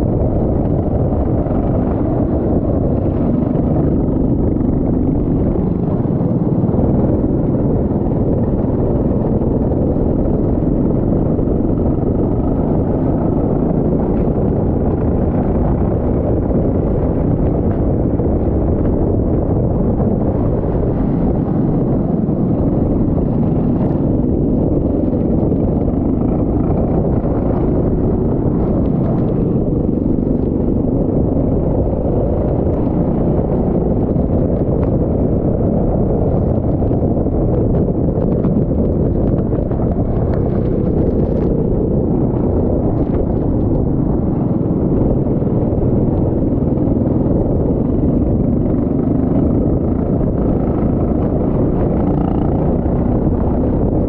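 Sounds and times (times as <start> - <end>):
wind buffeting microphone: 0.0 - 54.0
go-kart engine racing: 0.2 - 54.0.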